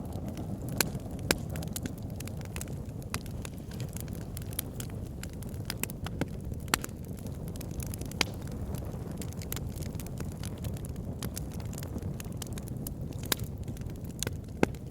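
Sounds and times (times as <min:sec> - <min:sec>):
fire flames rumbling: 0:00.0 - 0:14.9
logs crackling and popping: 0:00.0 - 0:14.9.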